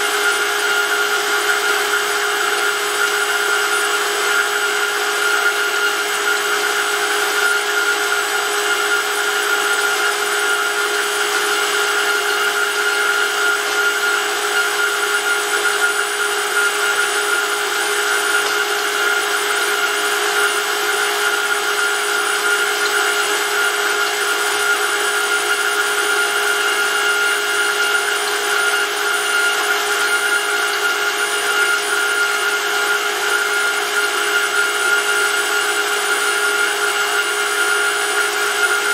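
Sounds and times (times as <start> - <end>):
electric motor and pump whine: 0.0 - 38.9.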